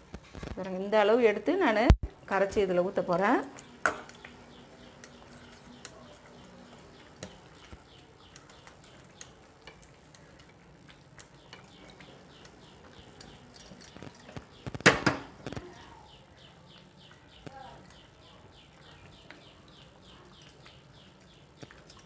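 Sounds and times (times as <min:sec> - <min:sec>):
thick mixture bubbling in pot: 0:00.0 - 0:22.0.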